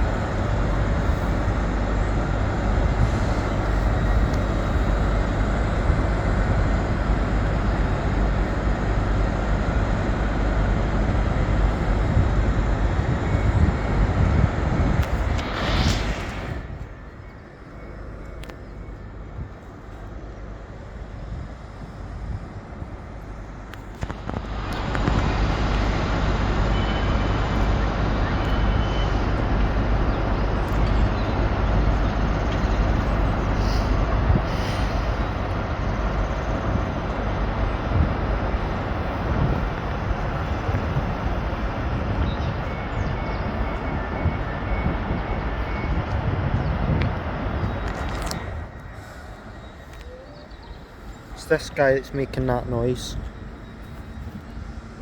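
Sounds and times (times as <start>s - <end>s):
train engine running: 0.0s - 55.0s.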